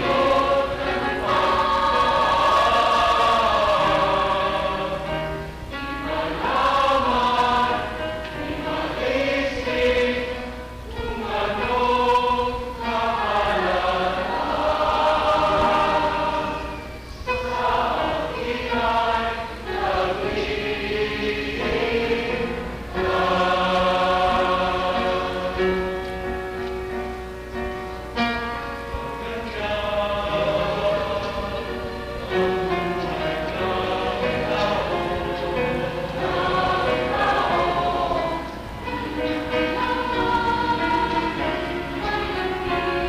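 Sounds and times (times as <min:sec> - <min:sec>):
choir singing in harmony: 0:00.0 - 0:43.0.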